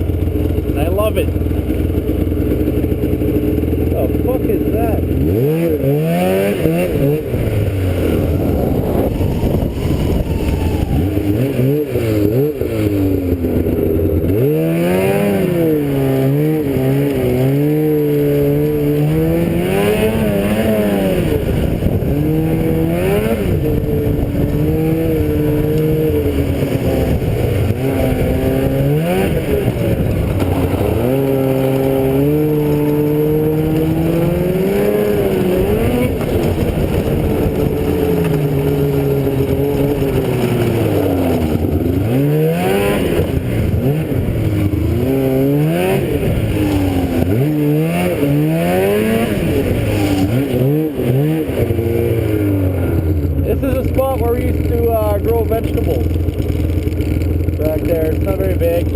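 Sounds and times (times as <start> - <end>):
trike engine revving: 0.0 - 58.9.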